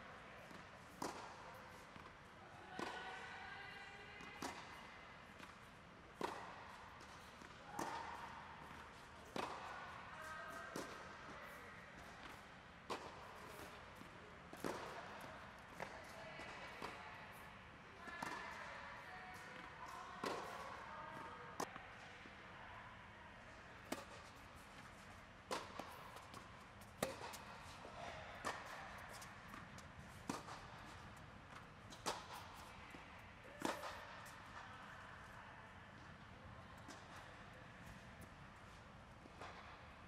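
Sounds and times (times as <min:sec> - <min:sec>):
tennis balls struck and bouncing: 0:00.4 - 0:17.5, 0:18.2 - 0:21.7, 0:23.8 - 0:37.2, 0:37.8 - 0:40.0.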